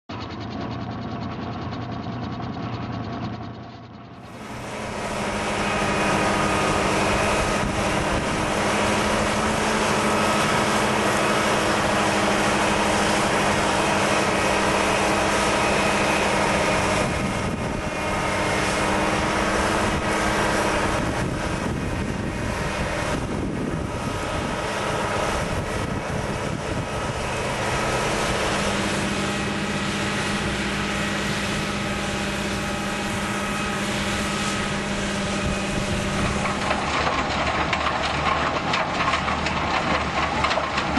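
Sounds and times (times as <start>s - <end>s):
heavy machine engine running: 0.1s - 40.9s.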